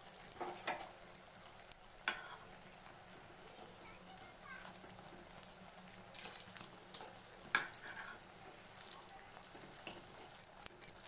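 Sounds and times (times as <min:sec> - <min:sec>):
oil sizzling with crackling pops: 0:00.0 - 0:11.0.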